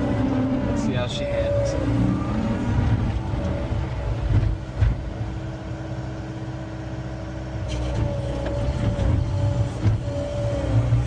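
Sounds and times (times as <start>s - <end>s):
diesel engine under load: 0.0s - 11.0s
hydraulic whine: 0.0s - 11.0s.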